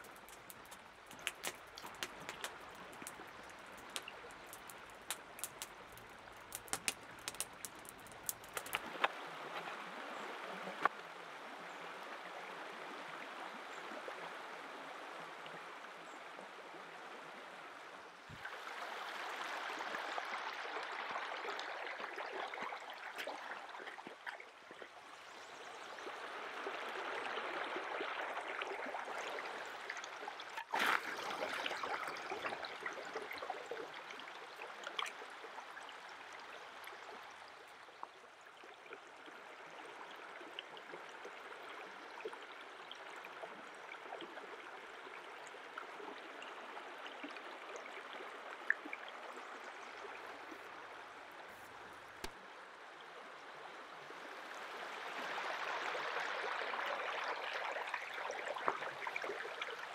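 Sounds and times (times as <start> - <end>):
stream running over pebbles: 0.0 - 59.9.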